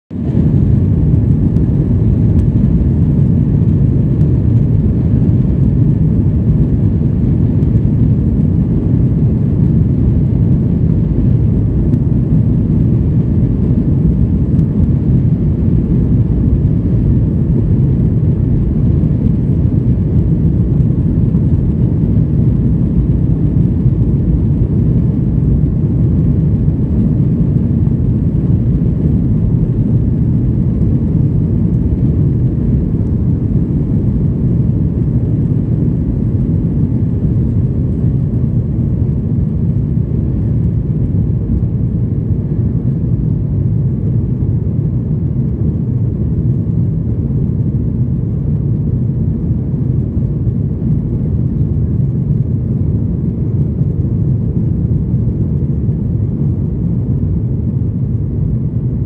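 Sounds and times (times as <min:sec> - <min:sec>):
jet engines rumbling: 0:00.1 - 0:59.0.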